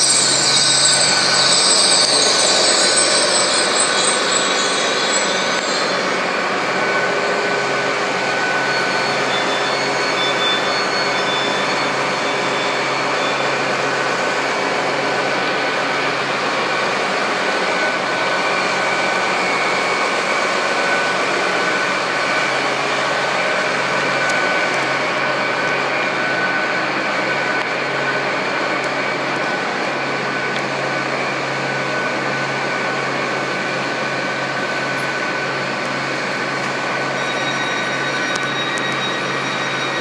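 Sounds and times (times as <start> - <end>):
diesel train engines droning: 0.0 - 40.0
faint high whine: 0.0 - 40.0.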